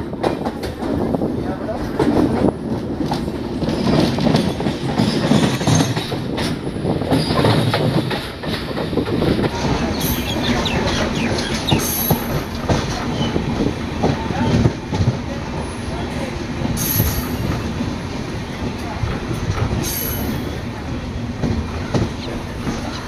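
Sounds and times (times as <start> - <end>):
train rumble and rattle: 0.0 - 23.0
wheels clacking over rail joints: 1.8 - 23.0.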